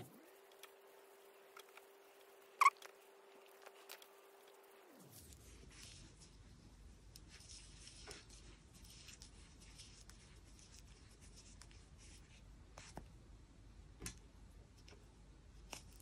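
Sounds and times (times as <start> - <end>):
yarn rustle with crochet hook: 0.0 - 13.0.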